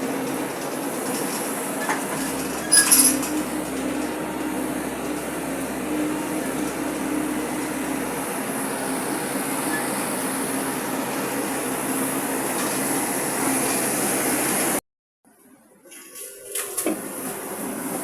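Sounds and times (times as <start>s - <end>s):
excavator diesel engine humming: 0.0s - 14.8s.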